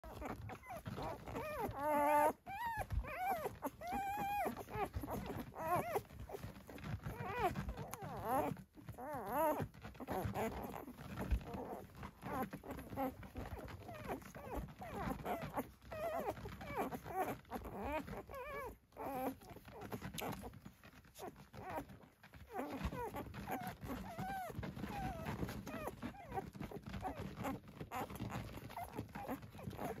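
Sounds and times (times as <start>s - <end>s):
puppies squeaking and whimpering: 0.0s - 30.0s.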